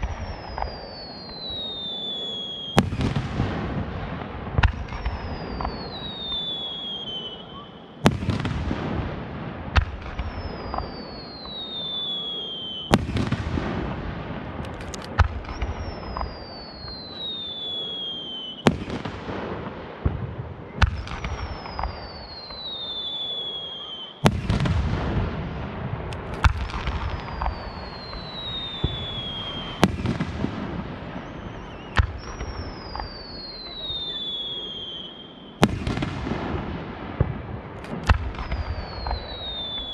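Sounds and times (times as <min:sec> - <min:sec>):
descending firework whistle: 0:00.0 - 0:09.0, 0:09.9 - 0:13.9, 0:15.2 - 0:36.6, 0:38.0 - 0:39.9
fireworks bursting with crackle: 0:00.0 - 0:39.9.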